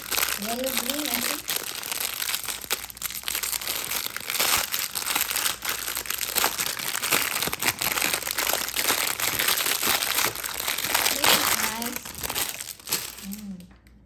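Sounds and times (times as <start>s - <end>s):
plastic packaging crinkling: 0.0s - 13.7s.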